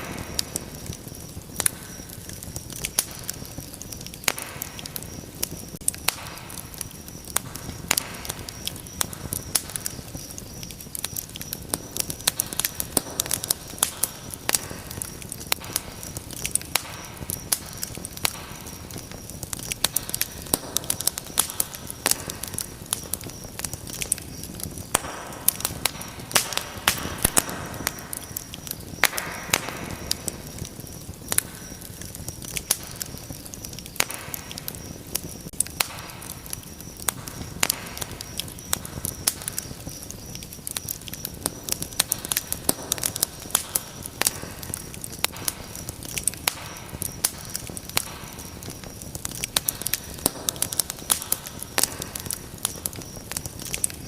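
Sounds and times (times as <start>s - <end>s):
fire crackling and popping: 0.0s - 54.0s
loud fire hissing: 0.0s - 54.0s.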